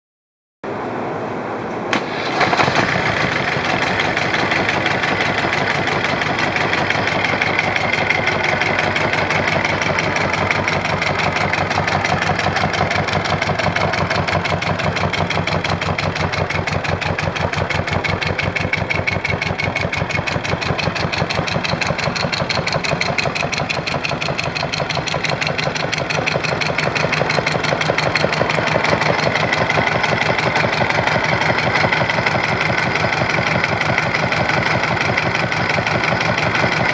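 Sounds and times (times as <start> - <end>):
diesel engine idling: 1.9 - 36.9.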